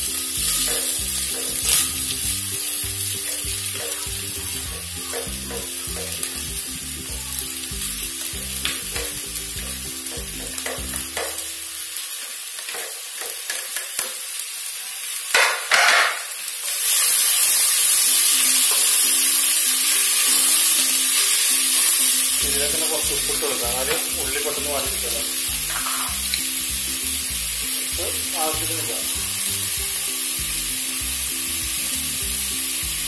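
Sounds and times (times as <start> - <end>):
onions sizzling in hot oil: 0.0 - 33.0.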